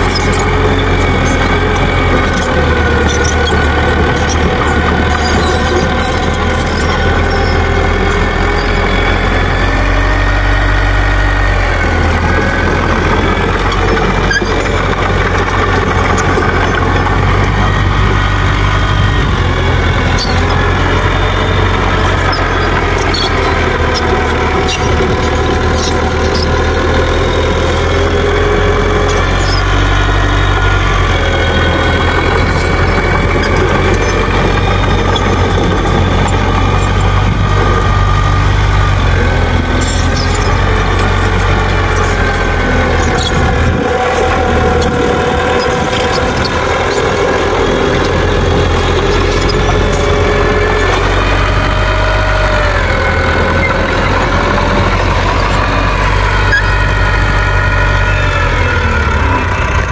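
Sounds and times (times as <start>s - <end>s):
steel tracks squealing: 0.0s - 59.8s
bulldozer diesel engine running: 0.0s - 59.9s.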